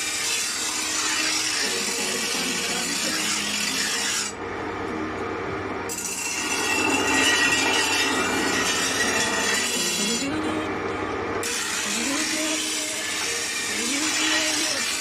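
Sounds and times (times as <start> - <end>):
tool rasping on metal: 0.0 - 4.4, 5.9 - 10.3, 11.4 - 15.0.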